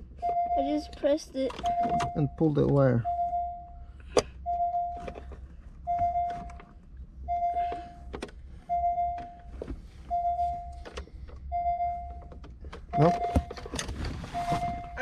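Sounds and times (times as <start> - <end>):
car warning chime: 0.2 - 5.2, 5.8 - 9.5, 10.1 - 12.3, 12.9 - 13.6, 14.3 - 15.0.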